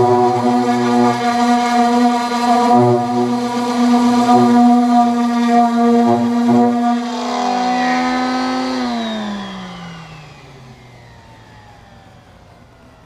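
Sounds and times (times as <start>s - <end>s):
power tool motor winding down: 0.0s - 13.0s.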